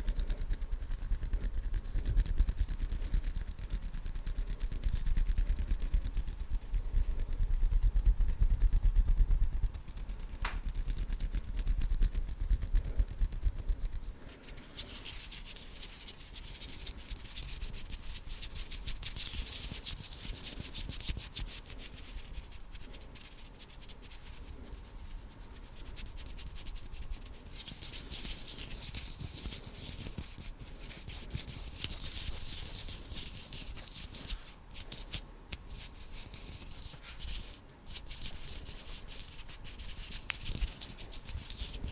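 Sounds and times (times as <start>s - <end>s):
hands rubbing and brushing: 0.0s - 41.9s.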